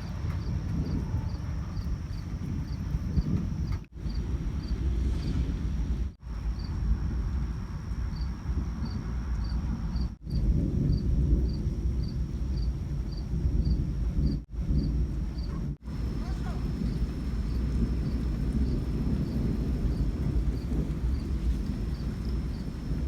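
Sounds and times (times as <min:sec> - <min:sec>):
crickets chirping: 0:00.0 - 0:23.0
low rumbling noise: 0:00.0 - 0:23.0.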